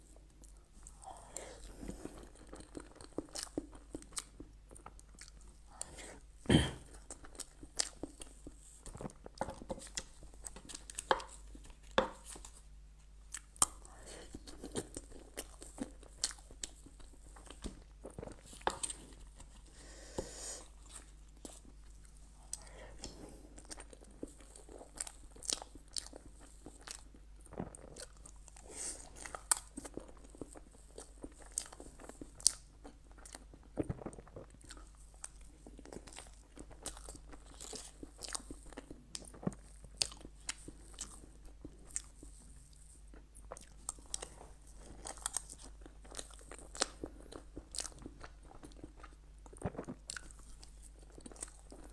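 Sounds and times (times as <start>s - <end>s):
person chewing crunchy food: 0.0s - 51.9s.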